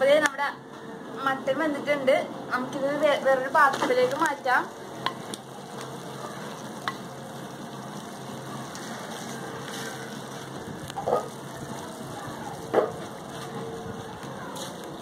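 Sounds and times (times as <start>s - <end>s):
broth boiling and bubbling: 2.8s - 15.0s.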